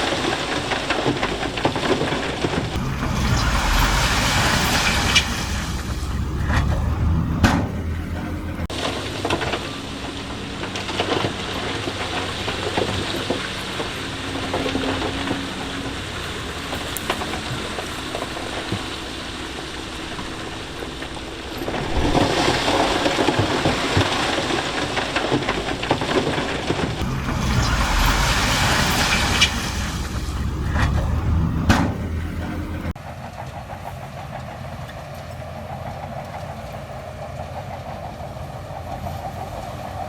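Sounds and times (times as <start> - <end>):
machinery working on loose stone: 0.0 - 34.6
diesel engine running: 0.0 - 40.0.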